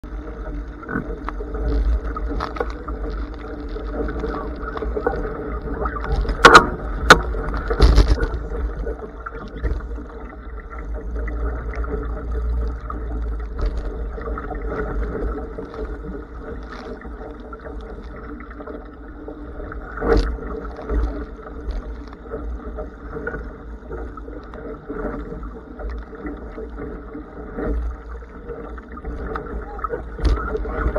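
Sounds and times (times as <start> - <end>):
wind and rushing water: 0.0 - 30.9.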